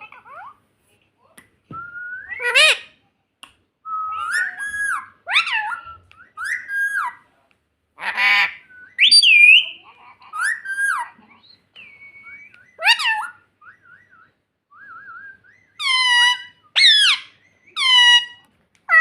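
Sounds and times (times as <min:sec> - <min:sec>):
parrot whistled calls: 0:01.8 - 0:03.0, 0:03.9 - 0:07.2, 0:08.0 - 0:19.0.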